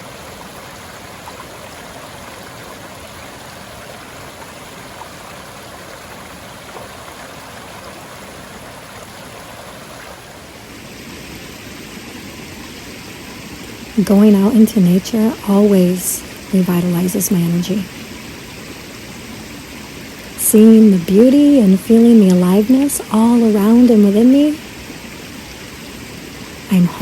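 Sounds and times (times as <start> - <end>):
stream water flowing: 0.0 - 27.0.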